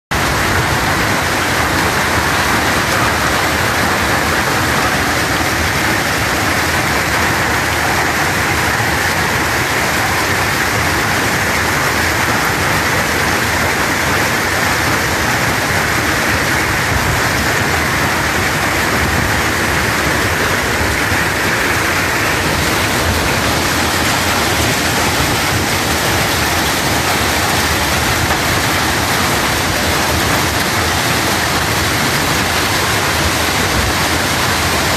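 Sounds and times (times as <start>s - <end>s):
hail and rain pelting ground: 0.1s - 34.9s.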